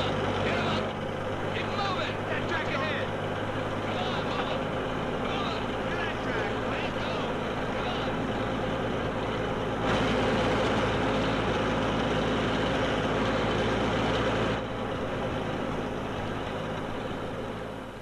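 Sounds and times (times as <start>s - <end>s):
heavy vehicle engine humming: 0.0s - 18.0s.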